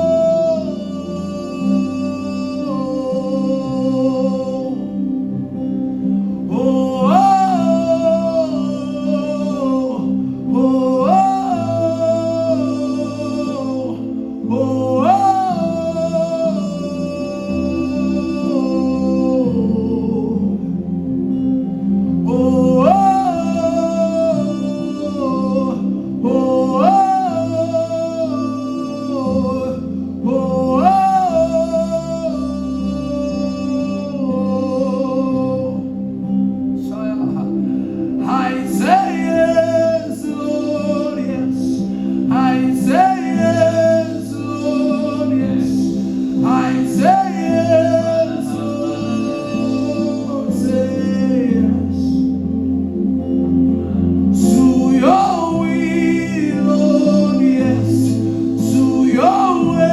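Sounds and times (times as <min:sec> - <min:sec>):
person singing: 0:00.0 - 0:53.6, 0:54.2 - 0:59.9
bass line: 0:00.0 - 0:59.9
sustained chords: 0:00.0 - 0:59.9.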